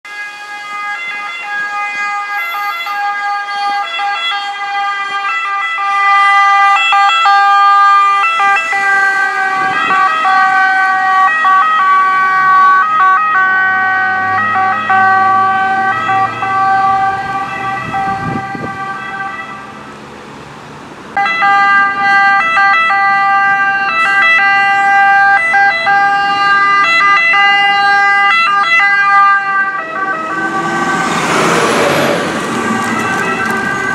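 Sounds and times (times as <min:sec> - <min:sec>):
ambulance siren switching pitch: 0:00.0 - 0:19.7, 0:21.2 - 0:33.9
loud approaching siren: 0:00.0 - 0:19.9, 0:21.1 - 0:33.9
vehicle engine and tyre rumble: 0:00.1 - 0:33.9.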